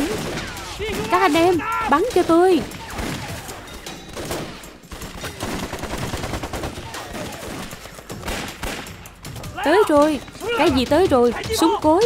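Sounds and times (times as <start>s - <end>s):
rapid gunfire volley: 0.0s - 12.0s.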